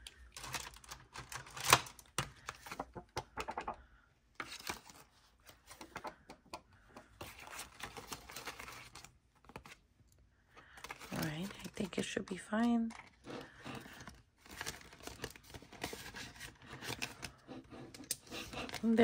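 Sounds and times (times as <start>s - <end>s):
paper and bills rustling: 0.0s - 3.8s, 4.4s - 6.2s, 7.1s - 9.9s, 10.6s - 19.0s.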